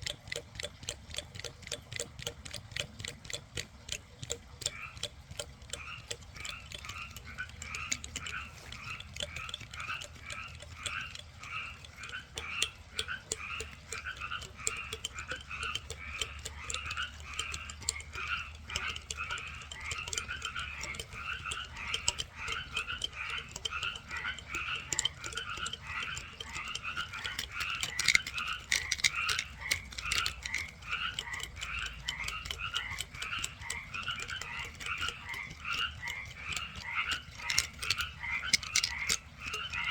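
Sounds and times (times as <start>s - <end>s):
frogs croaking: 0.0s - 39.9s
sharp clicks: 0.0s - 39.9s.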